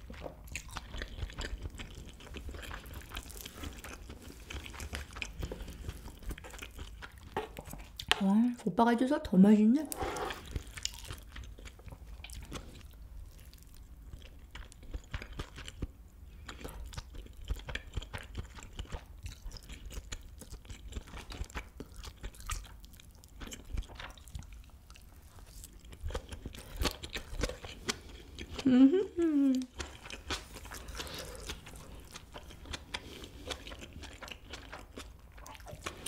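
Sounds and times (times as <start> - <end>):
person chewing food: 0.0 - 8.2, 9.9 - 36.0.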